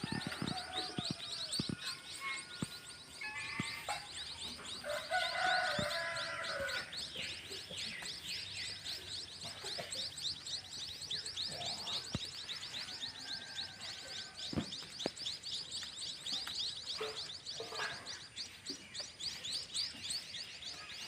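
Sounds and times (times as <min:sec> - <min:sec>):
baby birds chirping: 0:00.0 - 0:21.0.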